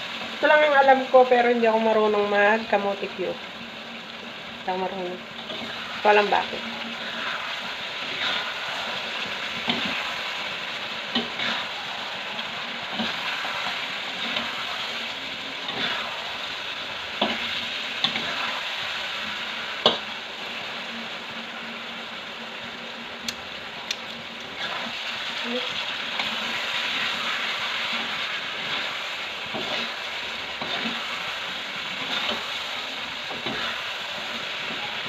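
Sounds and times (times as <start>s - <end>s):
sweet potato sizzling in pan: 0.0s - 35.0s.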